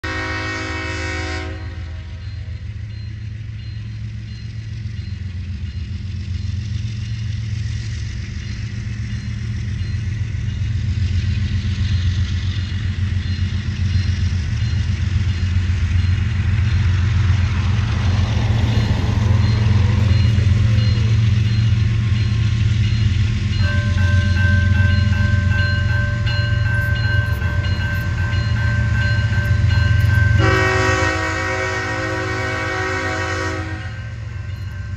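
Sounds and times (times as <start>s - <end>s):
locomotive engine rumble: 0.0s - 34.9s.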